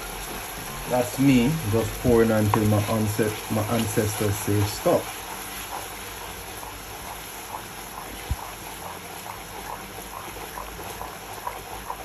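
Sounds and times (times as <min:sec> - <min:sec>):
sauce bubbling in a saucepan: 0:00.0 - 0:12.0
wooden spoon stirring: 0:01.1 - 0:12.0.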